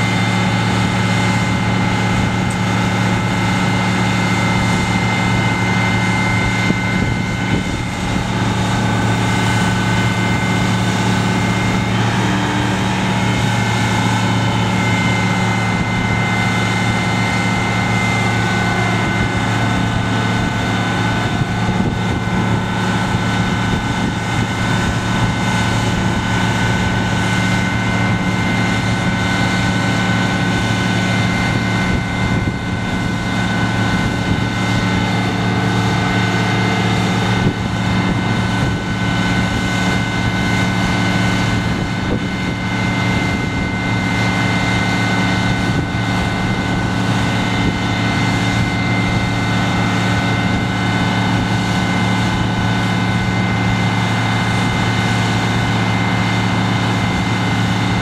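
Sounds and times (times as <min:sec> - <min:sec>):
diesel engine and hydraulic pump: 0:00.0 - 0:58.0.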